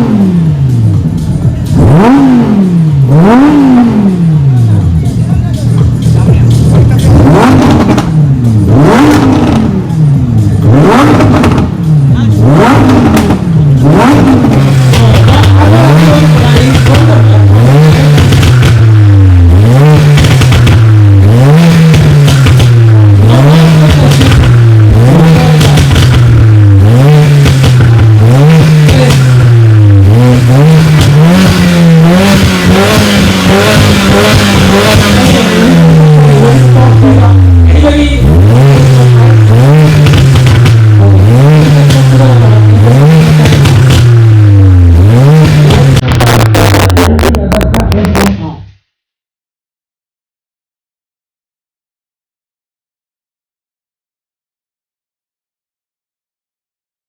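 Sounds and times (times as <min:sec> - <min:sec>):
supercar engine revving: 0:00.0 - 0:48.8.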